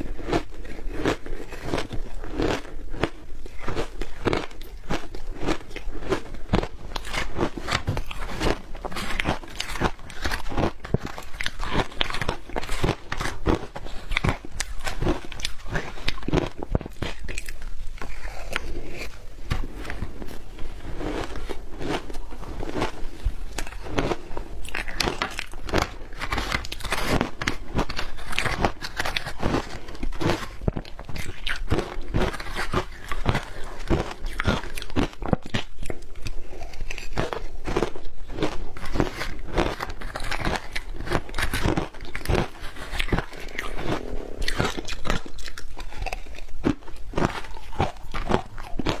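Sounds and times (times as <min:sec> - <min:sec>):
chewing crunchy ice: 0:00.0 - 0:49.0.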